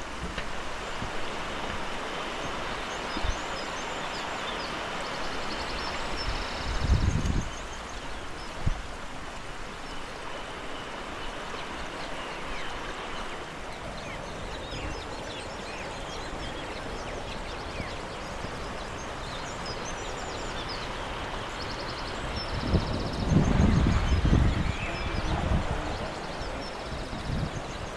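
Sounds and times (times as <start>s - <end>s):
small birds chirping: 0.0s - 27.9s
stream water rushing: 0.0s - 27.9s.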